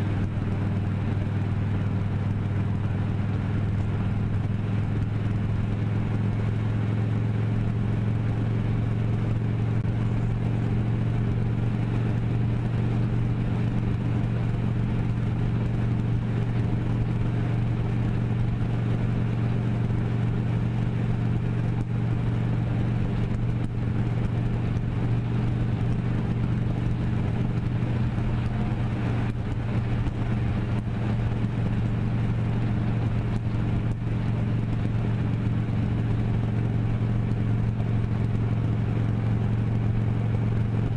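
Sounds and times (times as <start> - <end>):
road and wind noise: 0.0 - 40.9
vehicle engine humming: 0.0 - 40.9.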